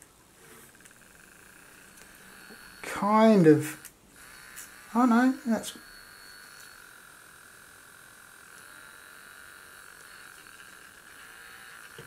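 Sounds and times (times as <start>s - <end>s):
small motor whining: 0.0s - 12.0s.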